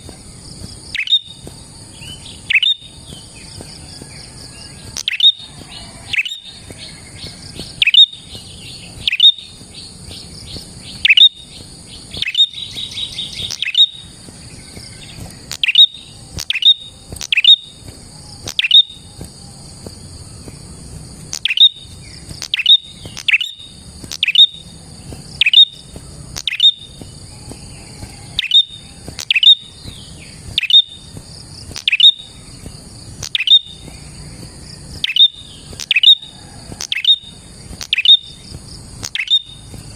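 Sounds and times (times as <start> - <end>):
songbird high chips: 0.0 - 3.5, 4.8 - 27.6, 28.3 - 34.1, 34.9 - 36.2, 36.8 - 39.9
steady high buzz: 0.0 - 39.9.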